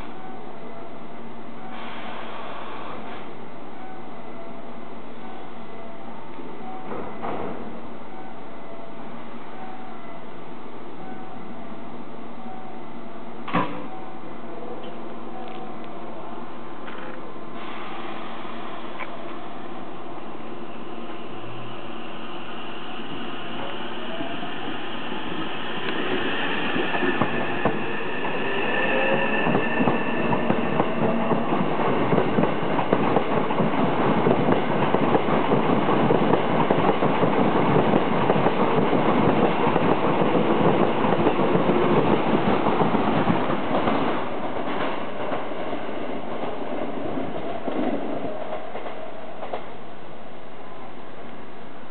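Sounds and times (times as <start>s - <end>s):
electric train inverter whine: 4.9s - 50.5s.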